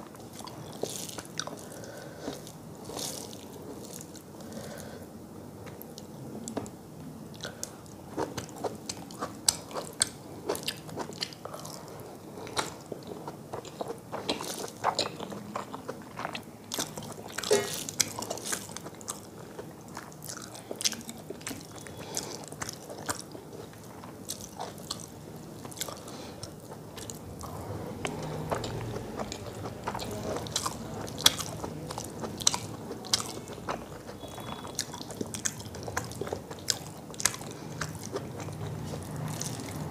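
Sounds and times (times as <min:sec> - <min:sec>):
person chewing with wet mouth sounds: 0:00.0 - 0:05.0, 0:07.3 - 0:39.9.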